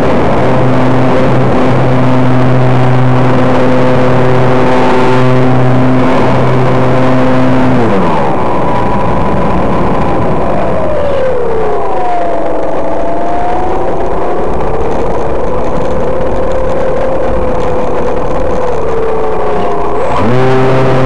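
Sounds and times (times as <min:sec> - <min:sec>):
model airplane motor and propeller: 0:00.0 - 0:21.0
wind rush on microphone: 0:00.0 - 0:21.0.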